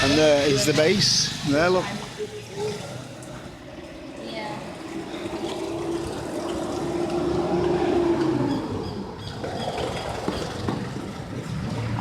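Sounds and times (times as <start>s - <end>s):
passing vehicle engine hum: 0.0s - 12.0s
traffic rumble: 0.0s - 12.0s.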